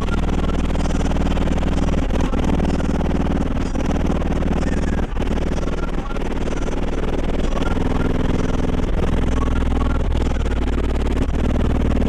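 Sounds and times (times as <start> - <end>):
loud bass-heavy music: 0.0 - 12.0.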